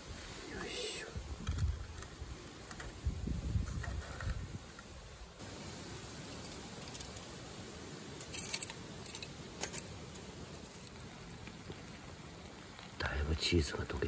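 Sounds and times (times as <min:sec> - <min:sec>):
pot of stew heating quietly: 0:00.0 - 0:14.0.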